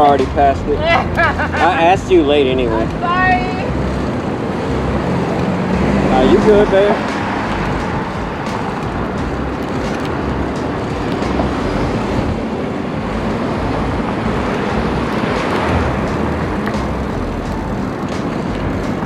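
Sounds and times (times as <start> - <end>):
road noise: 0.0 - 19.0
wind buffeting microphone: 0.0 - 19.0.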